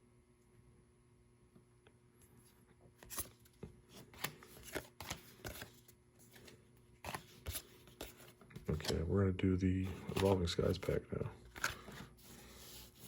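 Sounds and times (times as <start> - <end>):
trading cards and packaging handled: 2.2 - 13.0.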